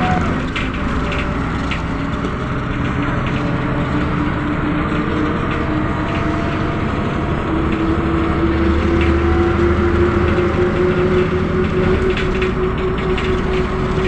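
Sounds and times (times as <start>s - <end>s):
bus engine drone with whine: 0.0s - 14.0s.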